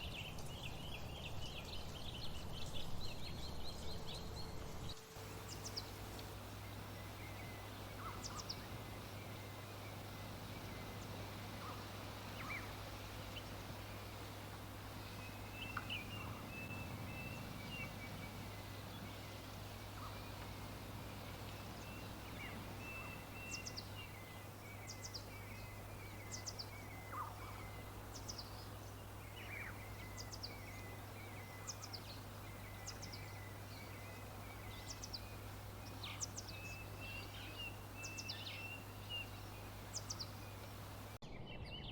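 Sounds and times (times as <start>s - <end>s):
background hiss and low hum: 0.0s - 41.9s.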